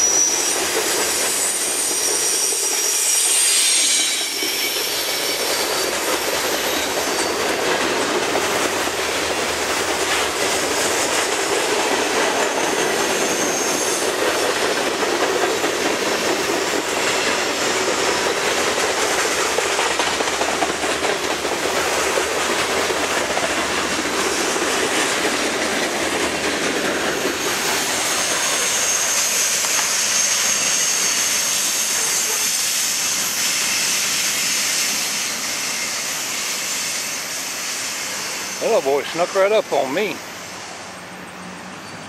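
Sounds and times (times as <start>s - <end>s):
train wheels clattering over rail joints: 0.0s - 35.5s.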